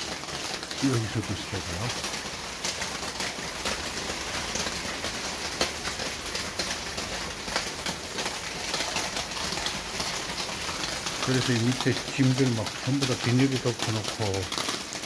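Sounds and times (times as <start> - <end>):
rain hiss: 0.0 - 15.0
raindrops ticking on surfaces: 0.0 - 15.0.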